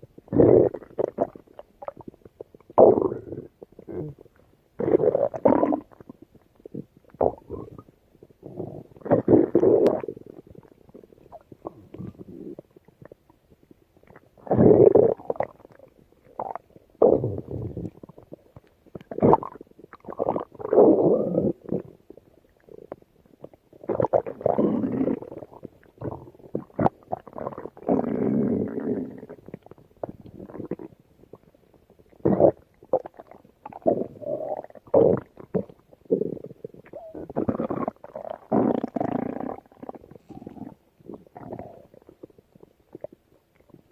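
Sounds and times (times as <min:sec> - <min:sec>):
stomach growling and gurgling: 0:00.0 - 0:43.9.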